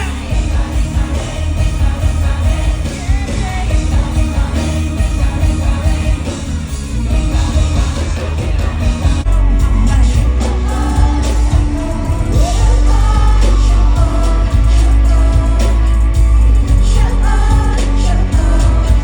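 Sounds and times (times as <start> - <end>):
amplified pop music with singing: 0.0 - 19.0.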